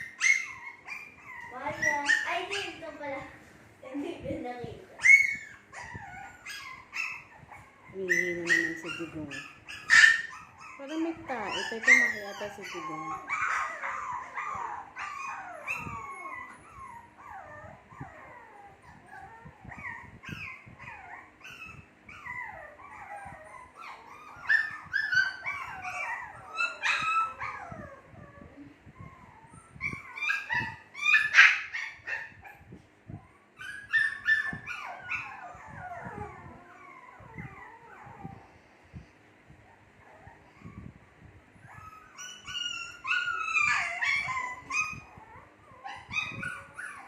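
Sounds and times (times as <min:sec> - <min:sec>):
puppies whining and yelping: 0:00.0 - 0:03.4, 0:04.4 - 0:47.0.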